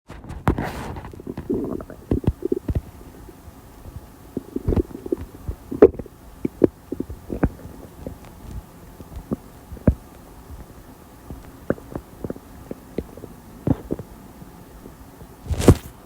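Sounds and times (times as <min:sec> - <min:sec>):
stomach gurgling: 0:00.4 - 0:15.9.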